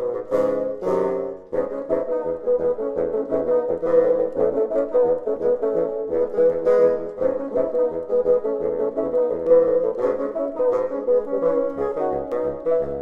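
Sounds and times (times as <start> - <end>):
bassoon quartet playing: 0.0 - 13.0.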